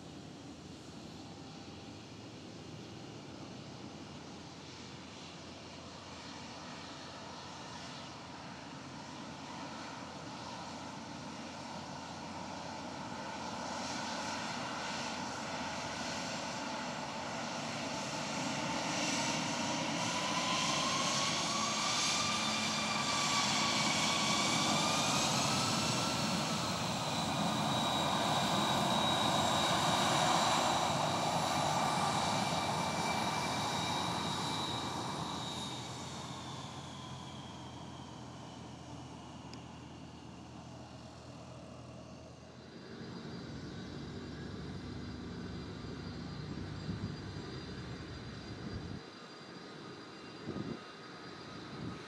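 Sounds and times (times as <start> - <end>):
jet engines with whining tones: 0.0 - 52.0.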